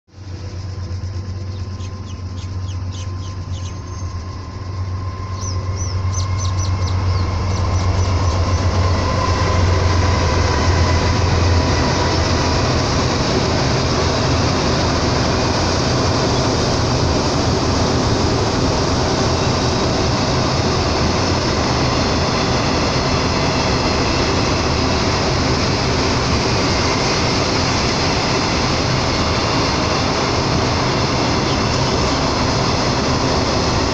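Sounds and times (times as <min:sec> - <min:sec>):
diesel locomotive drone: 0:00.1 - 0:33.9.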